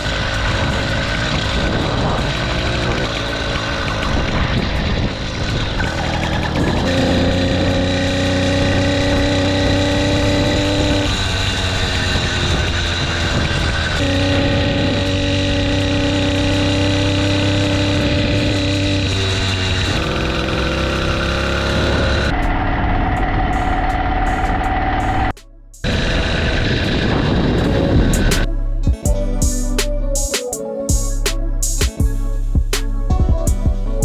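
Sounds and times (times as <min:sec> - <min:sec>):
two-stroke engine running: 0:00.0 - 0:28.5.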